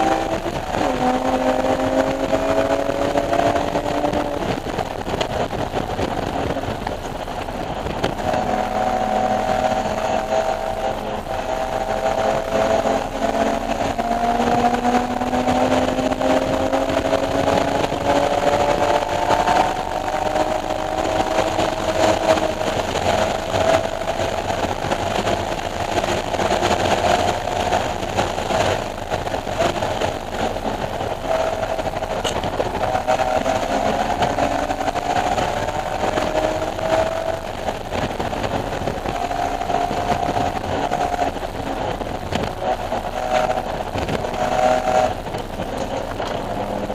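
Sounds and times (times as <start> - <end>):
car engine pulling under load: 0.0 - 46.9.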